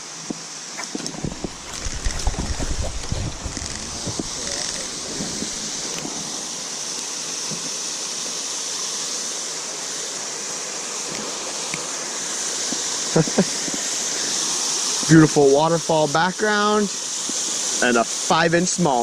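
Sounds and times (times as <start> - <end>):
water pouring over waterfall: 0.0 - 19.0.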